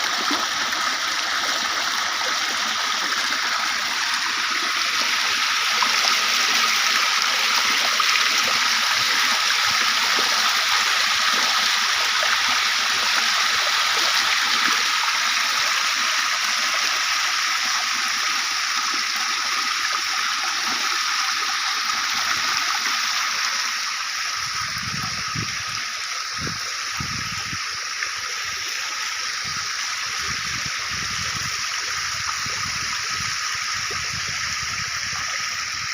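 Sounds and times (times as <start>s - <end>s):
fountain water gushing: 0.0s - 35.9s.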